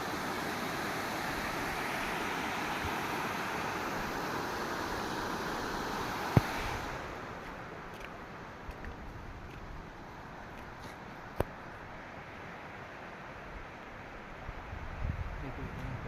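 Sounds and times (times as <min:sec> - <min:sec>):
stream water rushing: 0:00.0 - 0:14.4.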